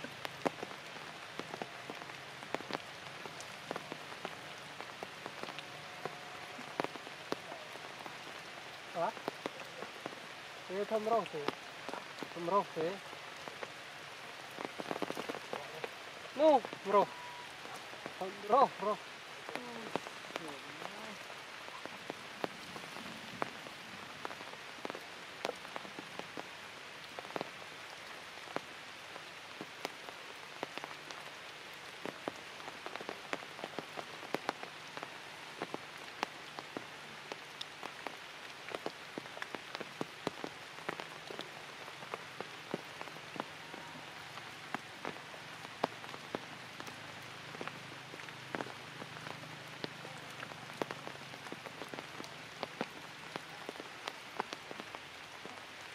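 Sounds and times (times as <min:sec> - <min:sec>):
raindrop taps: 0:00.0 - 0:10.2, 0:10.9 - 0:13.9, 0:14.5 - 0:27.7, 0:32.0 - 0:55.6
light rain hiss: 0:00.0 - 0:55.9.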